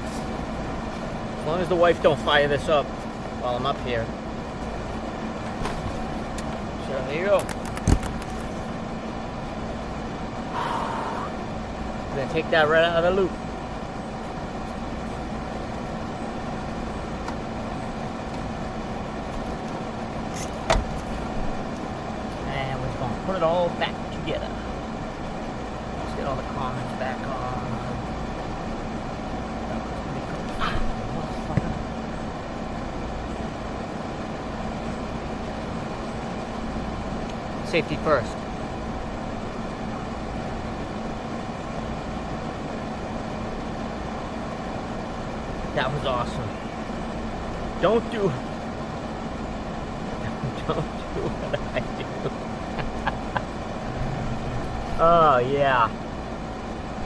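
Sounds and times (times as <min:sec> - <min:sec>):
faint underlying hum: 0:00.0 - 0:57.0
steady machine drone: 0:00.0 - 0:57.0.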